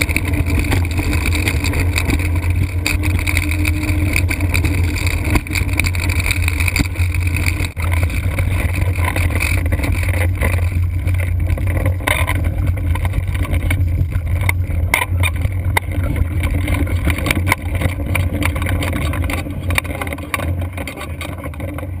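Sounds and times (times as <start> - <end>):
wheels rolling: 0.0 - 22.0.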